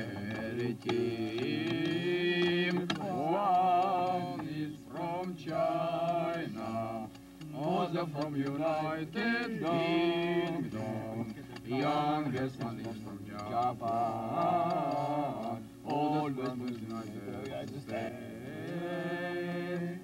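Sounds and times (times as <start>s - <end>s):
man singing slowly: 0.0s - 20.0s.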